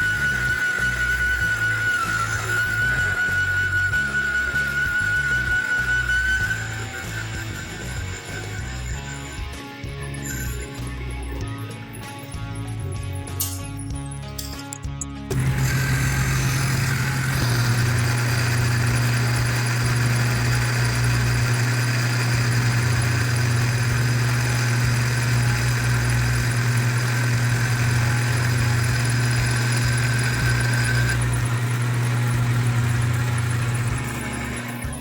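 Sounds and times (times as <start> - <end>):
metal lathe motor hum: 0.0 - 11.2, 15.3 - 35.0.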